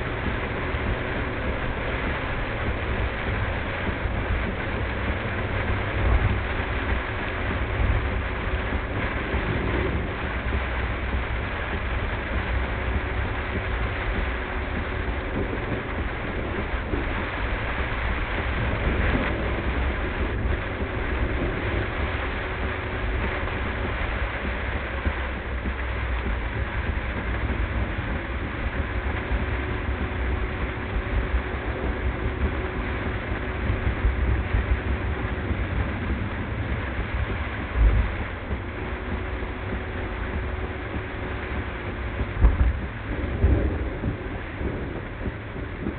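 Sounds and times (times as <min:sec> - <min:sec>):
car driving in heavy rain: 0:00.0 - 0:45.9
deep rumble: 0:00.0 - 0:45.9.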